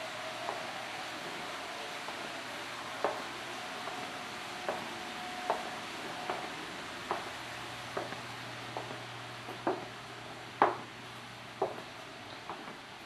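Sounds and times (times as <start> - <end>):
constant hiss: 0.0 - 13.0
footsteps on tile floor: 0.4 - 11.0, 11.6 - 12.9.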